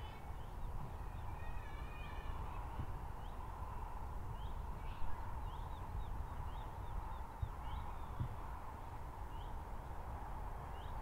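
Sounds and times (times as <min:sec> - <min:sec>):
small birds chirping: 0:00.0 - 0:10.0, 0:10.6 - 0:11.0.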